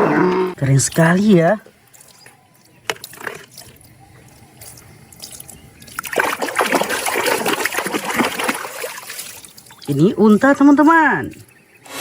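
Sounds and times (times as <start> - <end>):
tap water running and splashing: 0.6 - 11.8.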